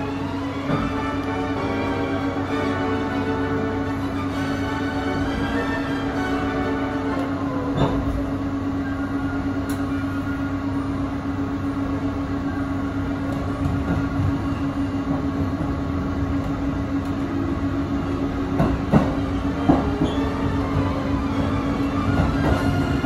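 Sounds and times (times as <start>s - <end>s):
electric train hum: 0.0s - 23.0s.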